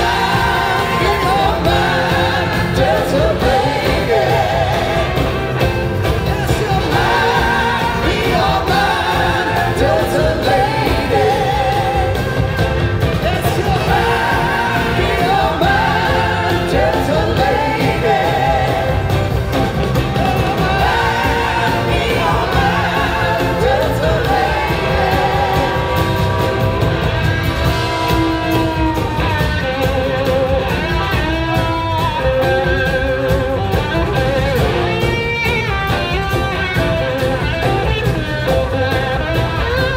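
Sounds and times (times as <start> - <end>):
drums: 0.0 - 39.9
electric guitars: 0.0 - 39.9
lead vocals: 0.0 - 39.9
live rock band playing: 0.0 - 39.9.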